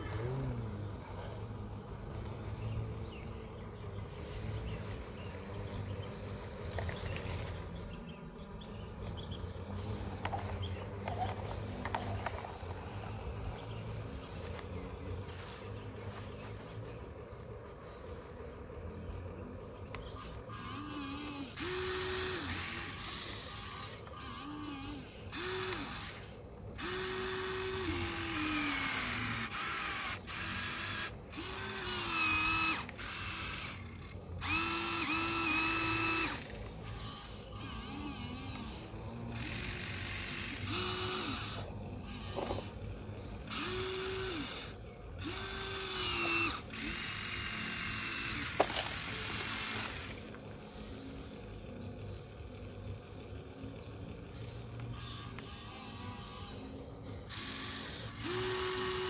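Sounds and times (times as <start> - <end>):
electric motors whirring: 0.0 - 59.0.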